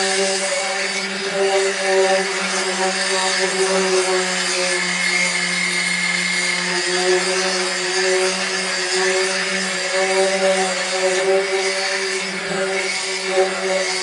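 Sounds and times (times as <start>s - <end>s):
electric sander running: 0.0s - 14.0s
gritty rubbing noise: 0.0s - 14.0s.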